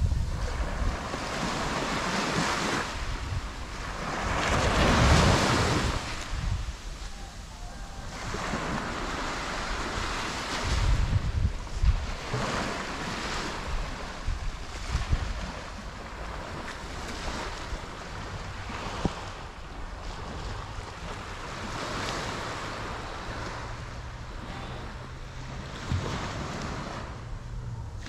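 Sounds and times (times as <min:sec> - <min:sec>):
waves washing on sandy shore: 0:00.0 - 0:28.0
wind buffeting microphone: 0:00.0 - 0:28.0.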